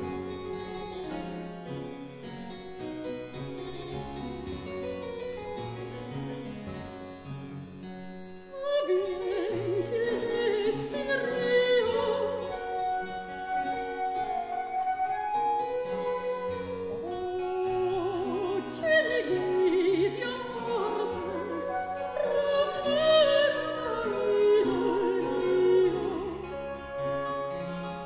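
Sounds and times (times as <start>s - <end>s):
harpsichord playing baroque music: 0.0s - 28.0s.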